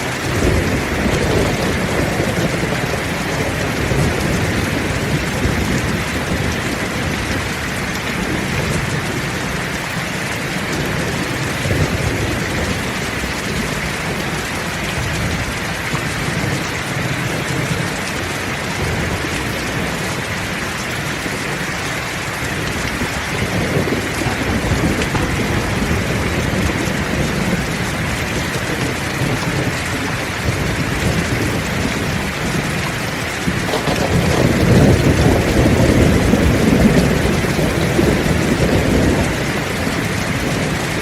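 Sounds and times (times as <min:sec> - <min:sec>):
heavy rain falling: 0:00.0 - 0:41.0
low rolling thunder: 0:00.0 - 0:41.0.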